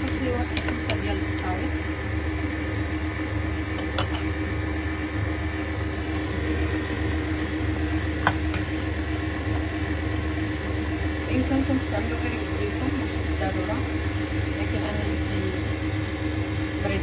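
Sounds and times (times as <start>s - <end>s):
stand mixer motor running: 0.0s - 17.0s.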